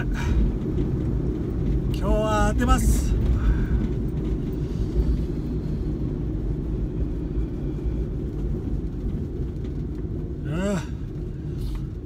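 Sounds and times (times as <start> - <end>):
van engine and road noise: 0.0 - 12.0.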